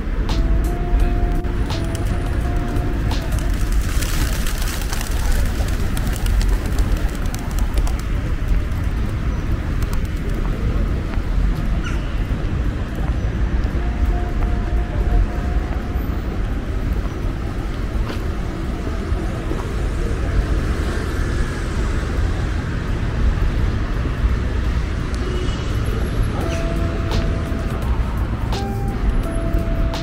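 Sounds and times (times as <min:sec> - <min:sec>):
traffic rumble: 0:00.0 - 0:30.0.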